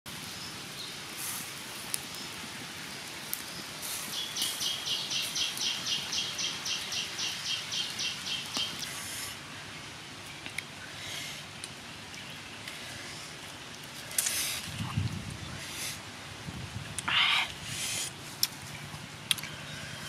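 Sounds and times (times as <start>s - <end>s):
wood fire hissing and crackling: 0.1s - 20.0s.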